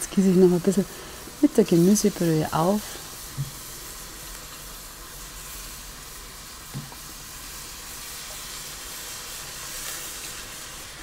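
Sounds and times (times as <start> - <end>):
stew sizzling in a pot: 0.0 - 11.0.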